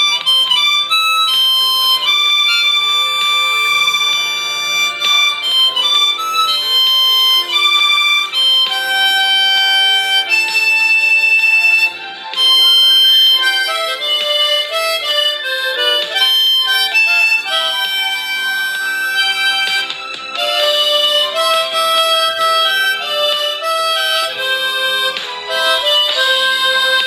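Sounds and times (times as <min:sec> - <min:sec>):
harmonica melody: 0:00.0 - 0:27.0.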